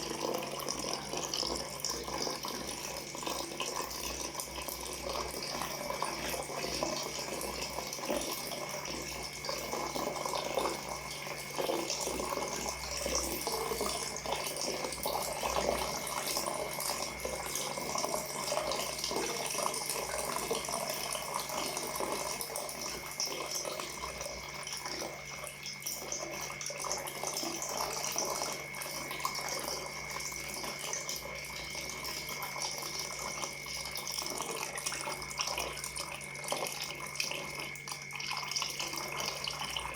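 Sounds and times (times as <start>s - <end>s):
water pouring into water: 0.0s - 39.9s.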